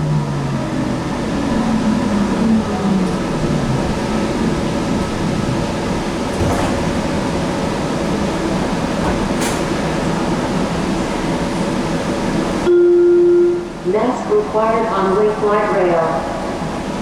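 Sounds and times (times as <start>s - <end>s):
light rail car hum: 0.0s - 17.0s.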